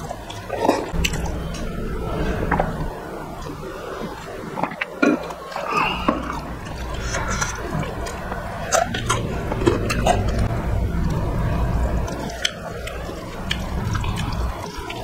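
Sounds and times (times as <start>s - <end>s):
wet chewing and lip-smacking: 0.0s - 2.8s, 3.4s - 15.0s.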